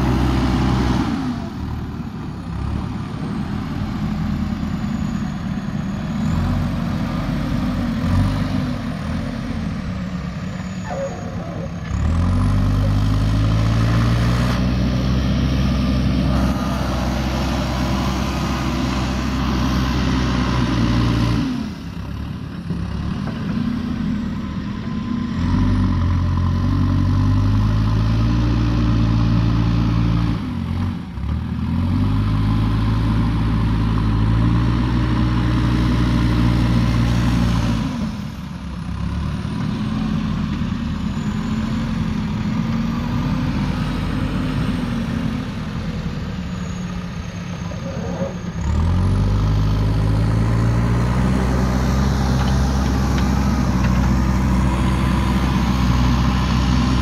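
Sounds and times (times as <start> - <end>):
diesel engine revving under load: 0.0 - 57.0.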